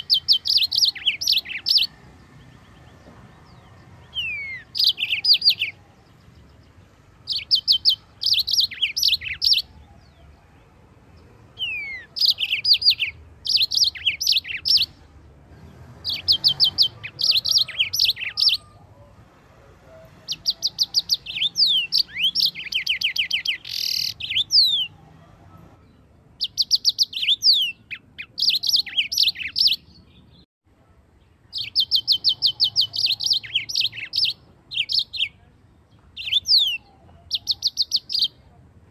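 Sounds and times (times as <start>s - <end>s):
canary singing trills: 0.0s - 19.2s, 19.8s - 30.5s, 31.3s - 38.9s.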